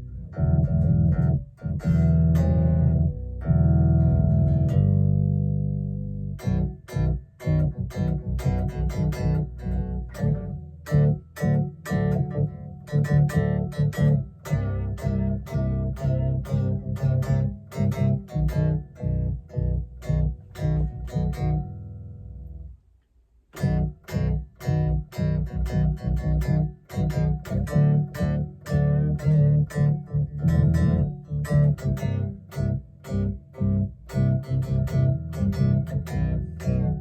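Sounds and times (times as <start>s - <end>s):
guitar picked notes: 0.0s - 22.8s, 23.6s - 37.0s.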